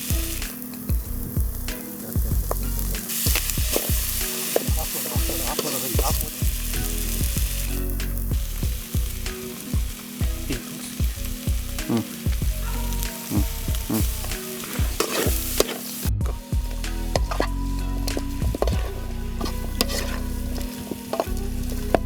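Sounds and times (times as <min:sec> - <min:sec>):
chicken sizzling in a pan: 0:00.0 - 0:22.0
spatula scraping and knocking pan: 0:00.0 - 0:22.0.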